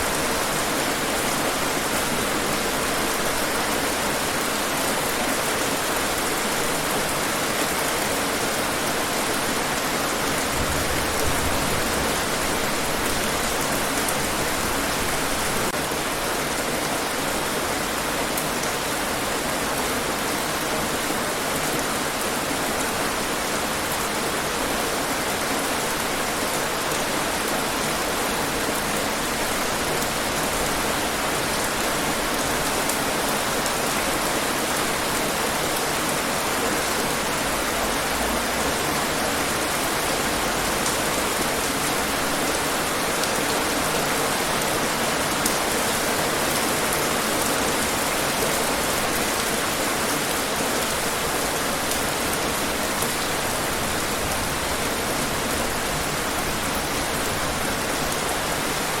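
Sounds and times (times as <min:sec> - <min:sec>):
rain on hard surfaces: 0:00.0 - 0:59.0.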